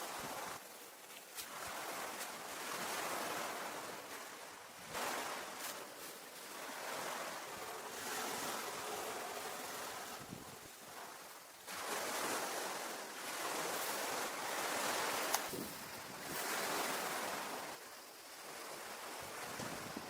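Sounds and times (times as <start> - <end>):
sea waves washing ashore: 0.0 - 20.0.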